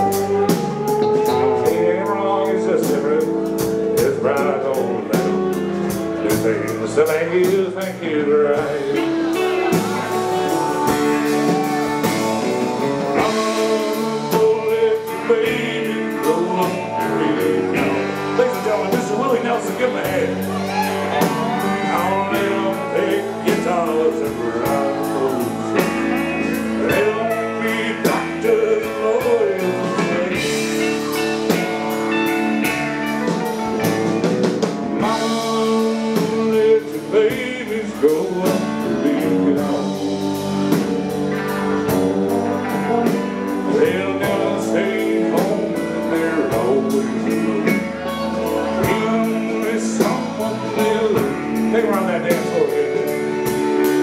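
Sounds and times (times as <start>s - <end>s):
person singing: 0.0s - 34.2s, 34.9s - 54.0s
country blues band music: 0.0s - 54.0s.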